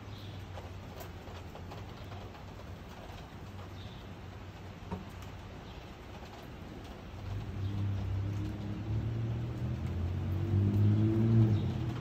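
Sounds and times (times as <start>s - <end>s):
water dripping: 0.0s - 12.0s.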